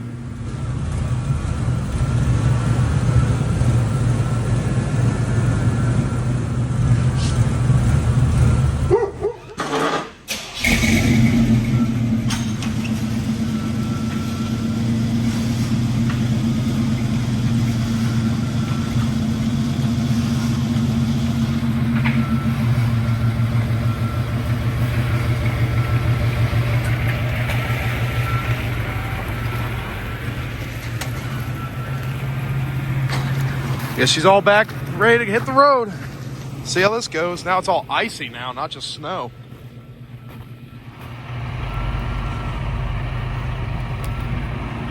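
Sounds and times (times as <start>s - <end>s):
car engine running steadily: 0.0s - 44.9s.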